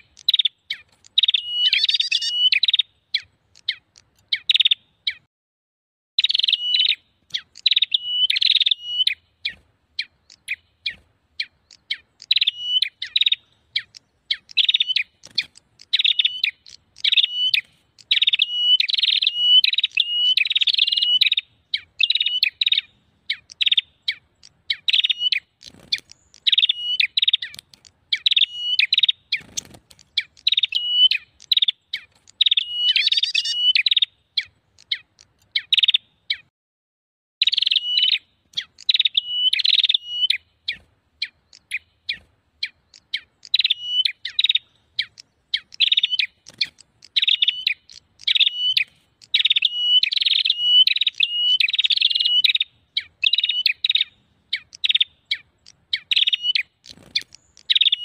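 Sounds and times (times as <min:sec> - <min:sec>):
birds chattering: 0:00.0 - 0:05.3, 0:06.2 - 0:36.5, 0:37.4 - 0:58.0.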